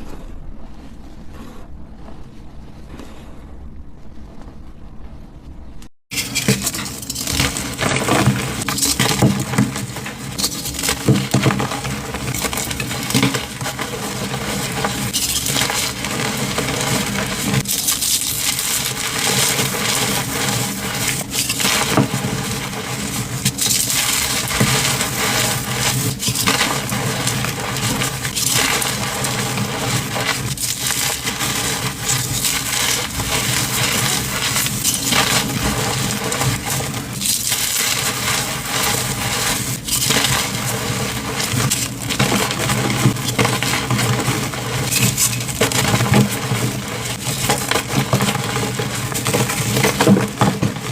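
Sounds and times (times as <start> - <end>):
chalk blocks crunching: 6.1 - 50.9.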